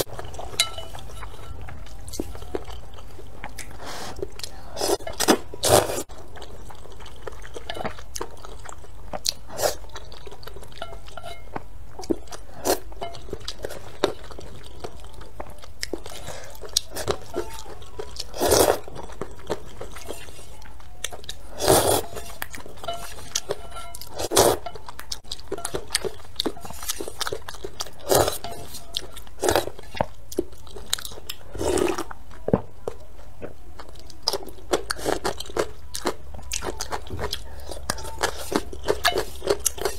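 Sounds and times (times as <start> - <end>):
wet chewing mouth clicks: 0.0 - 32.2.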